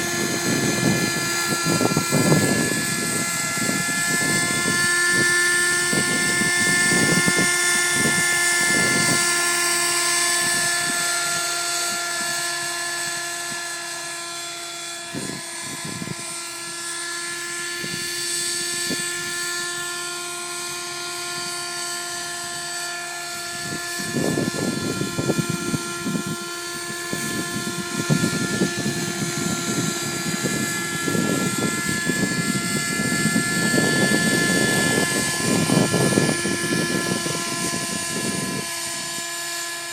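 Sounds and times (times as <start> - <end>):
model helicopter engine whine: 0.0 - 39.9
wind buffeting microphone: 0.0 - 39.9.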